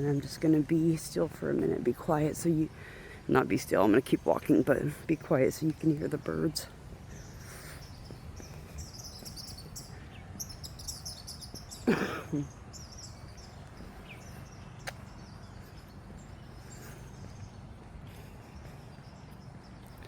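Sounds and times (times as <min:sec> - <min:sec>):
low steady outdoor background: 0:00.0 - 0:20.0
songbirds chirping and singing: 0:00.2 - 0:20.0.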